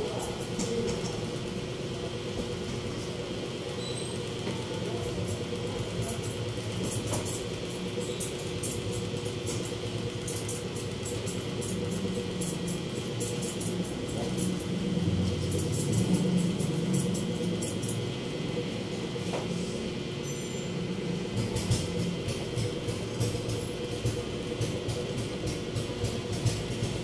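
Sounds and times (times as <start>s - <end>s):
room hum: 0.0s - 27.0s.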